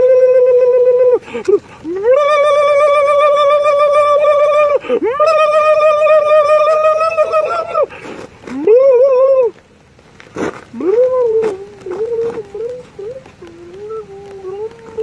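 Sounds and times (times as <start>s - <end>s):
man howling wails: 0.0s - 7.9s, 8.5s - 9.6s, 10.8s - 15.0s.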